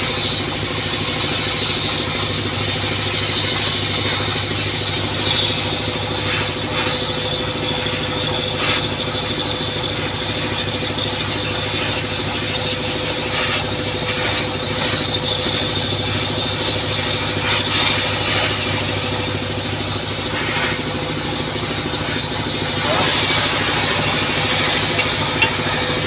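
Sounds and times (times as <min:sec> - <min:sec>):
machinery drone with whine: 0:00.0 - 0:26.0.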